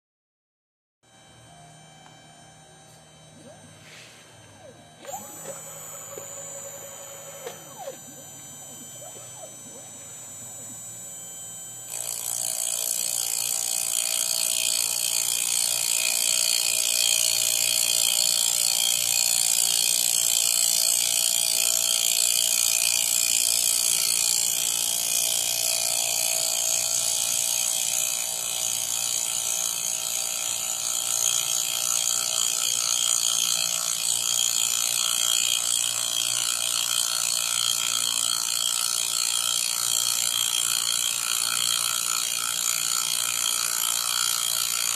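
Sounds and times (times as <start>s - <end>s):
router spindle whine: 1.1s - 44.9s
cutter cutting wood: 3.4s - 44.9s.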